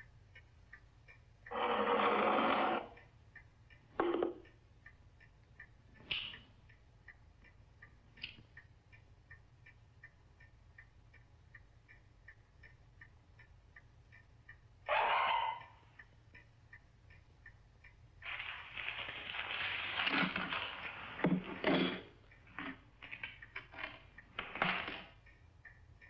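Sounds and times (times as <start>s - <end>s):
clock ticking quickly: 0.0s - 26.0s.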